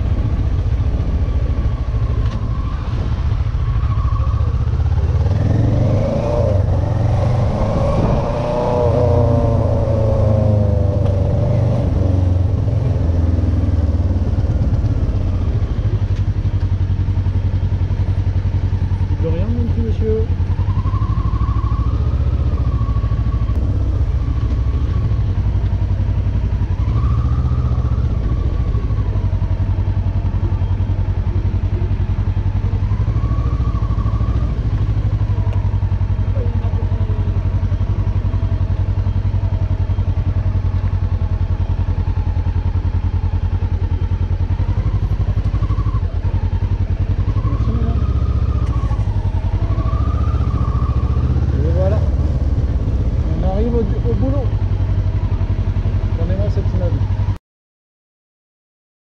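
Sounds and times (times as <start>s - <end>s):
motorcycle engine revving: 0.0s - 57.4s.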